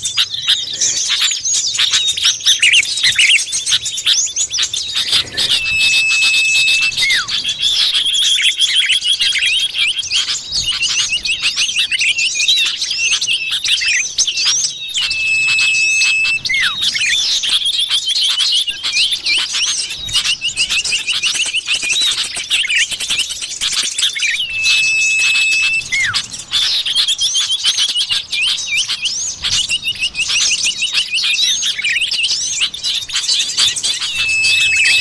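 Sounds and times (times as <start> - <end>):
bird chirping trills: 0.0 - 35.0
long level whistle: 5.0 - 22.0, 23.7 - 35.0.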